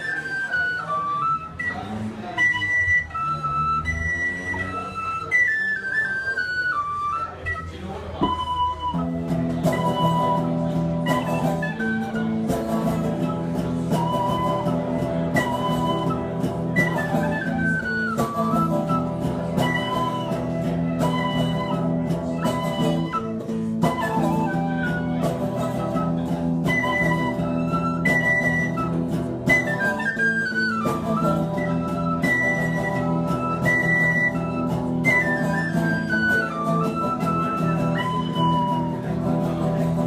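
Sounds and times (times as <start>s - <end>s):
tin whistle melody: 0.0s - 40.0s.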